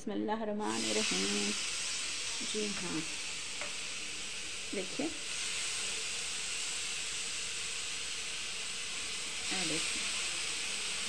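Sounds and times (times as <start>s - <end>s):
meat sizzling in oil: 0.6s - 11.0s.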